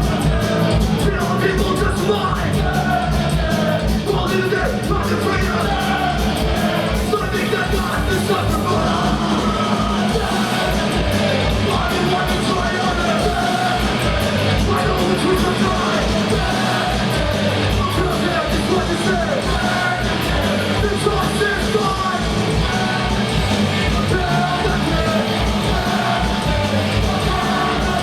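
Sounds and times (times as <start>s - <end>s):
distorted guitars: 0.0s - 28.0s
fast driving drums: 0.0s - 28.0s
shouted vocals: 0.0s - 28.0s.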